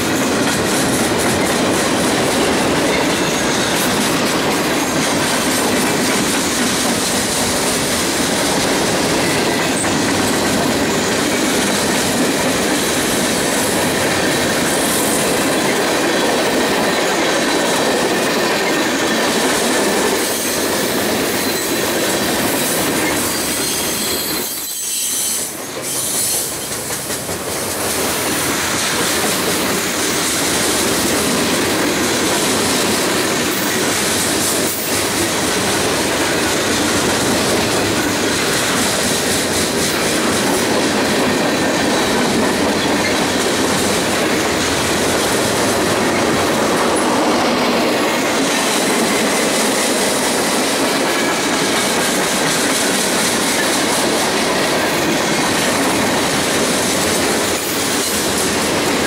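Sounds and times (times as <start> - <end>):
steel train wheels rumbling on rails: 0.0 - 59.0.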